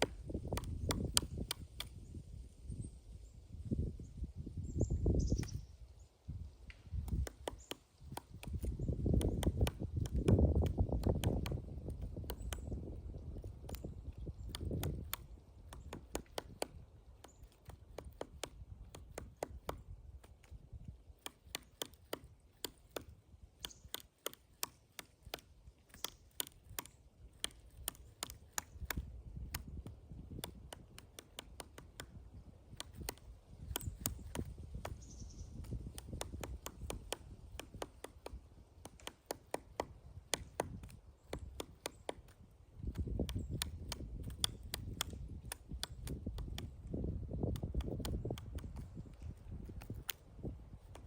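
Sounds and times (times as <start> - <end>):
woodpecker knocking on wood: 0.0 - 2.0, 6.9 - 51.0.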